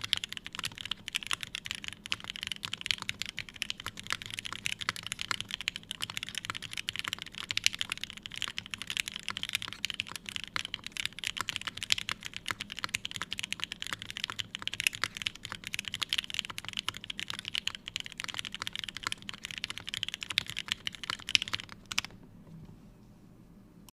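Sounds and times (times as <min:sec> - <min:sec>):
typing on mechanical keyboard: 0:00.0 - 0:22.2.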